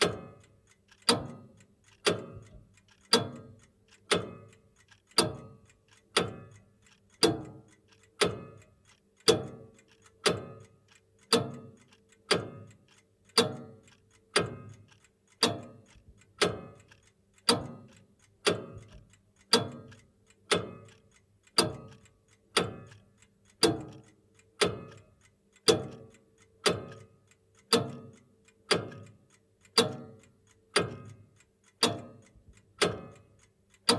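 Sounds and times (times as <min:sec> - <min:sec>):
grandfather clock ticking: 0:00.0 - 0:33.9.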